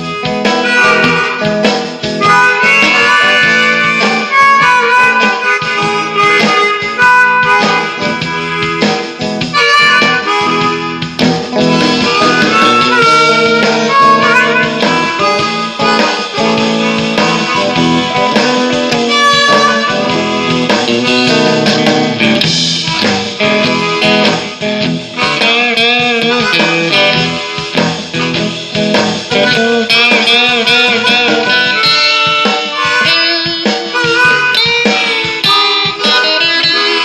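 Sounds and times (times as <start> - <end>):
electric guitar: 0.0 - 37.0
harmonica playing blues: 0.0 - 37.0.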